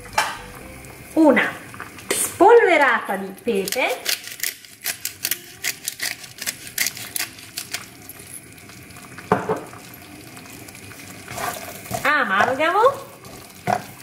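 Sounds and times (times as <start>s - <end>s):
chicken sizzling in broth: 0.0s - 14.0s.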